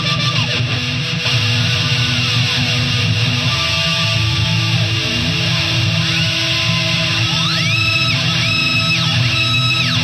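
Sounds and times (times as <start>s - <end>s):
distorted electric guitars playing: 0.0s - 10.0s.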